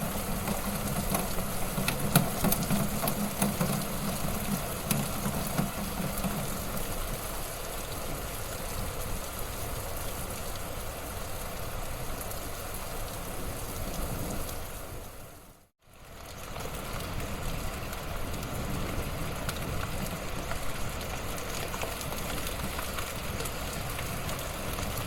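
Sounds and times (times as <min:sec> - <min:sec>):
wood fire crackling and hissing: 0:00.0 - 0:25.0.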